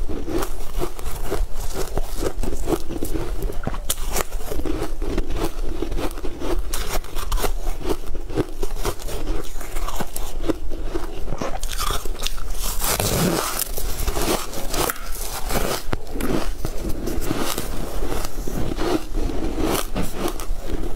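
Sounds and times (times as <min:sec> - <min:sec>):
person chewing crunchy snack: 0:00.0 - 0:20.9.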